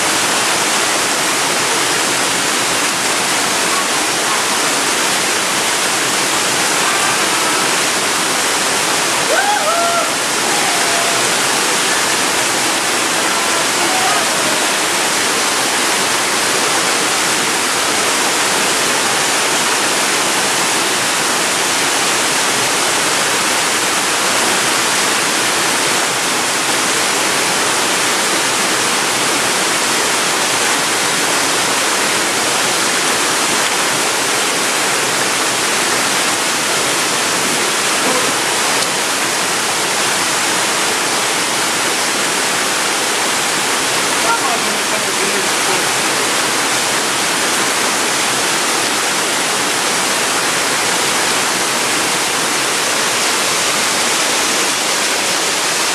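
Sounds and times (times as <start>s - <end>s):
waterfall cascading over rocks: 0.0s - 55.9s.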